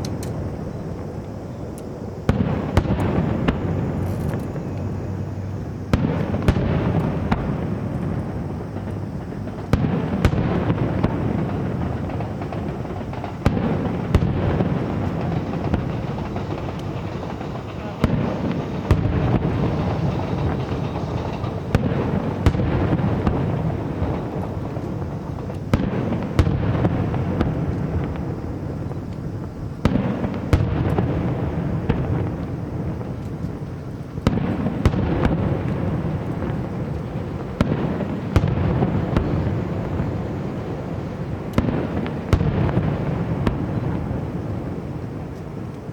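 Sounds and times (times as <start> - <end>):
fireworks sharp bangs: 0.0 - 45.9
low rumble of fireworks bursts: 0.0 - 45.9.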